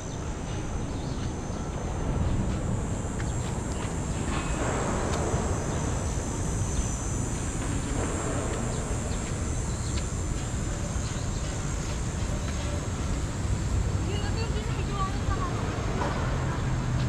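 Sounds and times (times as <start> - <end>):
low city rumble: 0.0 - 17.0.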